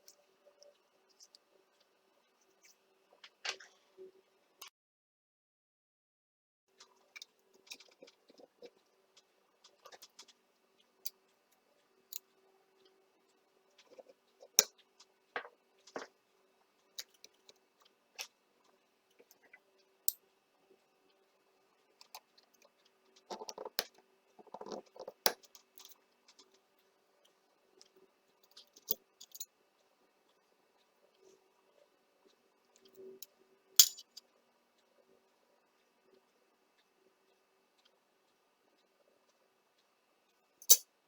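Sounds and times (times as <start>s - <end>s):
faint steady hum: 0.0s - 4.7s, 6.7s - 41.0s.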